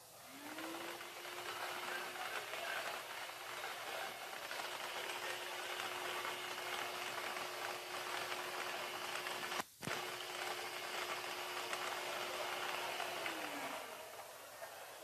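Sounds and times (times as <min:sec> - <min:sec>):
blower motor humming: 0:00.0 - 0:15.0.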